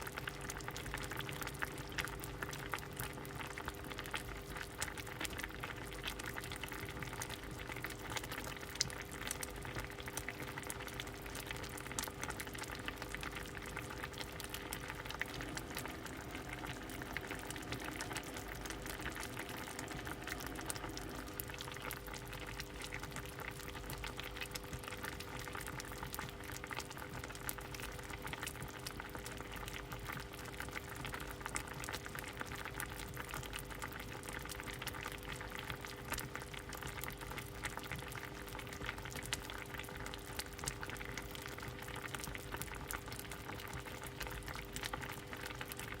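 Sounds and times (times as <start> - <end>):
soup boiling and bubbling: 0.0 - 46.0.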